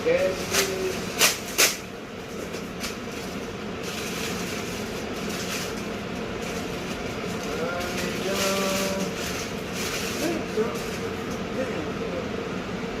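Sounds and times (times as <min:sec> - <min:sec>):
steady mechanical rumble: 0:00.0 - 0:13.0.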